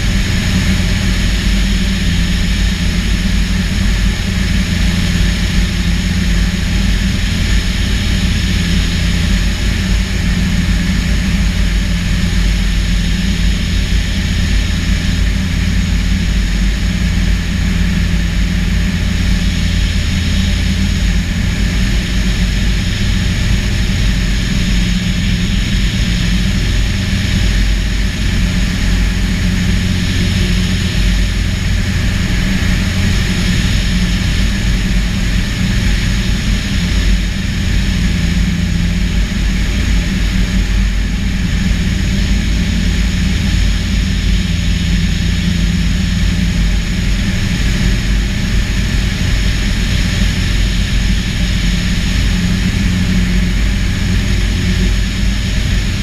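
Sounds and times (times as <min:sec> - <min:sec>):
aircraft engine and propeller: 0:00.0 - 0:56.0.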